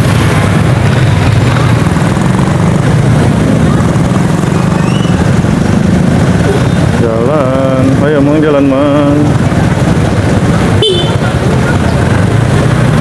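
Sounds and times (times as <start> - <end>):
motorcycle engine running: 0.0 - 13.0
traffic din: 0.0 - 13.0.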